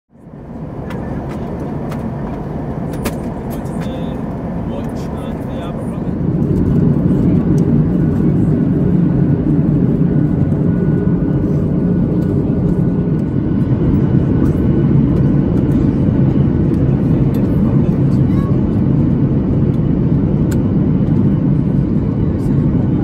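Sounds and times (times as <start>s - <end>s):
airplane cabin engine rush: 0.1s - 23.0s.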